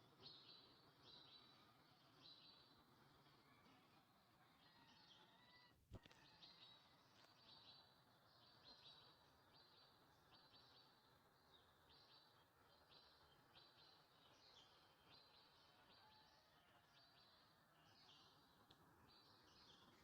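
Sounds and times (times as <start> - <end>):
small bird chirping: 0.0 - 20.0.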